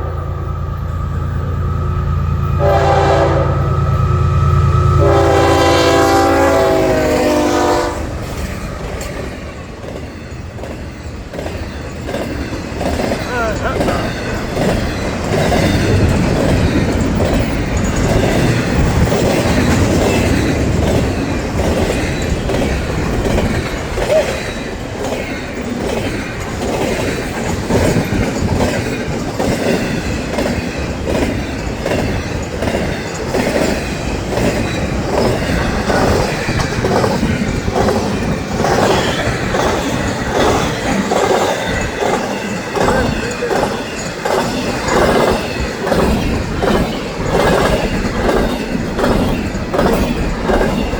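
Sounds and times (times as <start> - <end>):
train wheels clicking over rail joints: 0.0 - 50.9.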